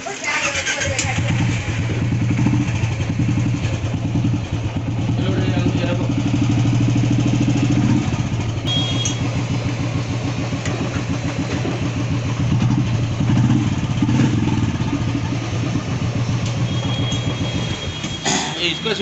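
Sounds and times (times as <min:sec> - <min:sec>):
motorcycle engine idling: 0:00.4 - 0:19.0.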